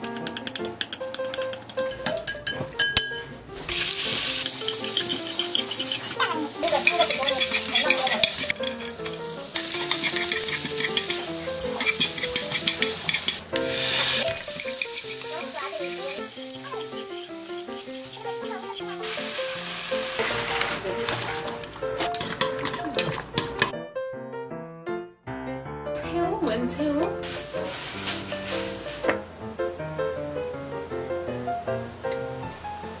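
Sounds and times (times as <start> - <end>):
food sizzling in frying pan: 3.6 - 23.7, 26.4 - 33.0.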